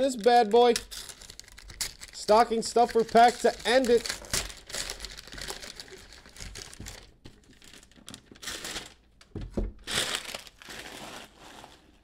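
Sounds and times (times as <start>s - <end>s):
wrapping paper tearing and crinkling: 0.0s - 9.1s, 9.8s - 12.0s.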